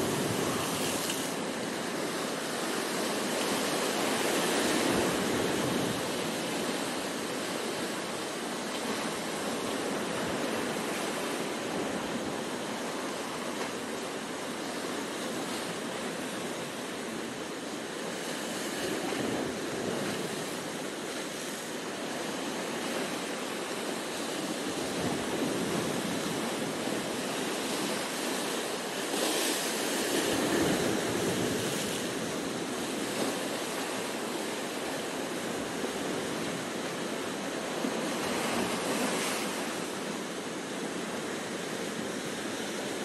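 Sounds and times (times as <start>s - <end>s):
surf washing over rocks: 0.0s - 43.0s.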